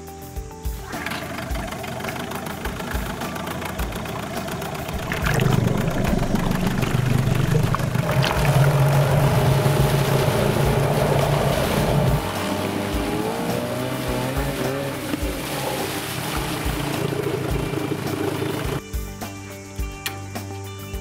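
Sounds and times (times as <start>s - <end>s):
outboard motor running: 0.7s - 18.8s
propeller churning water: 0.7s - 18.8s.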